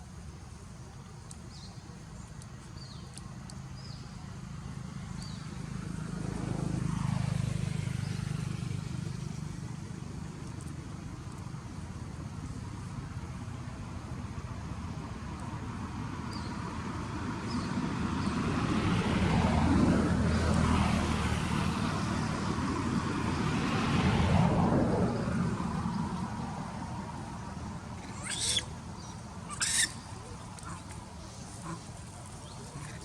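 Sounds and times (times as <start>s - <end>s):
vehicle passing by: 3.7s - 33.0s.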